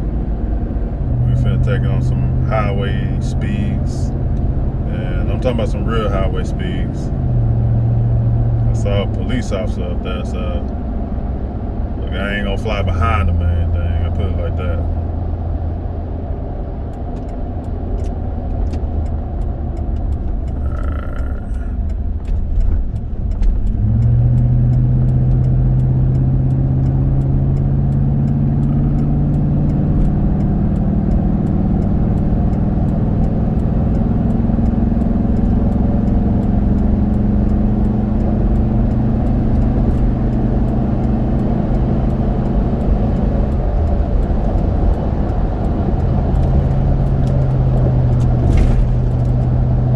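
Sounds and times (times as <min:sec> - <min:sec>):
road noise low rumble in car cabin: 0:00.0 - 0:49.9.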